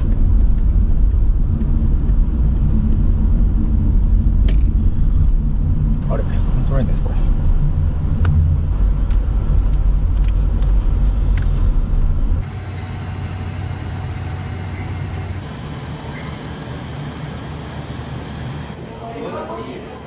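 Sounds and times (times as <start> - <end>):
car rumbling inside cabin: 0.0 - 18.8
steady background hum: 0.0 - 20.0.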